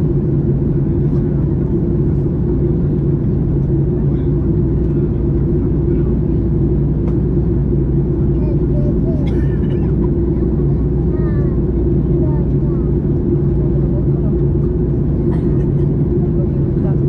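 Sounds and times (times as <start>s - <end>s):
constant low hum: 0.0s - 17.0s
jet engine drone in cabin: 0.0s - 17.0s.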